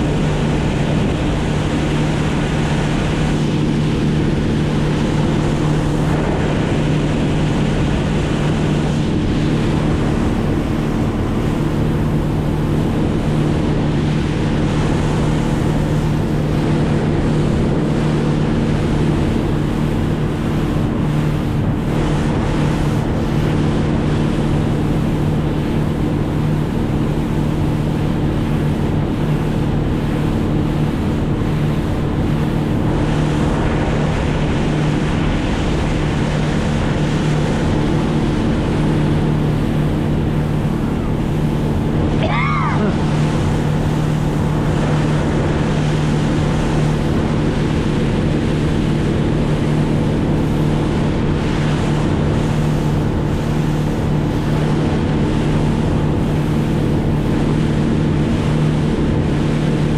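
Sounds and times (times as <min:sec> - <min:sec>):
motorboat engine running: 0:00.0 - 0:59.9
water rushing past hull: 0:00.0 - 0:59.9
wind on microphone: 0:00.0 - 0:59.9.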